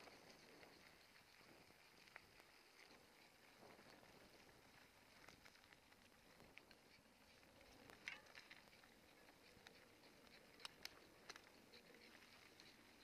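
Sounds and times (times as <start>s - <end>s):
faint light ticks and patter: 0.0s - 13.0s.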